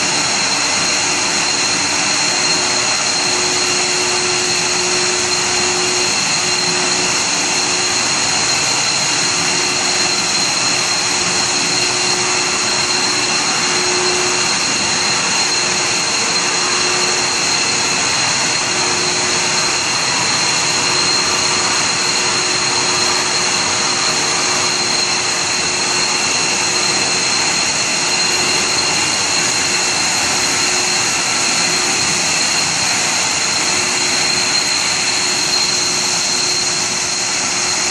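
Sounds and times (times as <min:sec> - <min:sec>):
high machine whine: 0:00.0 - 0:37.9
machine hiss: 0:00.0 - 0:37.9.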